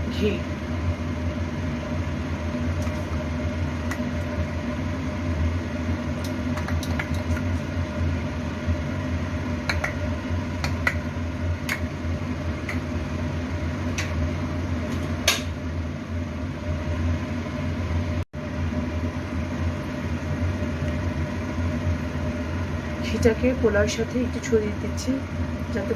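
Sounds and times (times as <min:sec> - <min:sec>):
kitchen appliance humming: 0:00.0 - 0:25.9.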